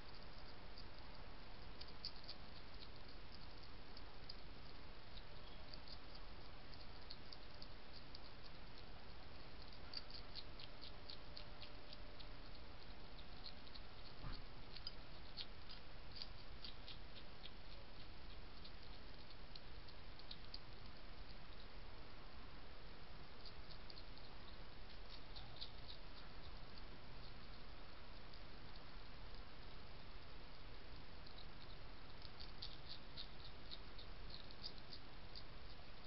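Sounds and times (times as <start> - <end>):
hedgehog crunching dry biscuits: 0.0 - 22.1, 22.7 - 36.0
steady hiss: 0.0 - 36.0.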